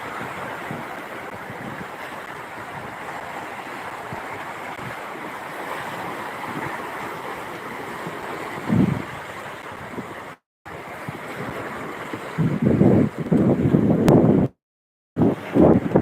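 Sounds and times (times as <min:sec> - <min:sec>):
waves rushing: 0:00.0 - 0:14.6, 0:15.2 - 0:16.0.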